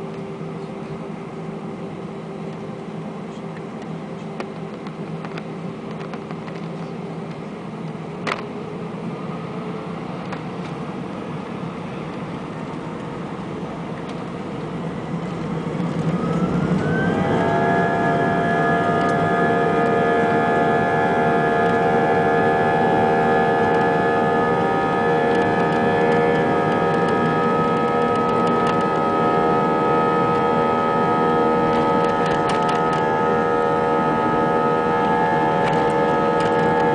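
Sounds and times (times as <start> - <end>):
jet engines spooling up: 2.2 - 36.9.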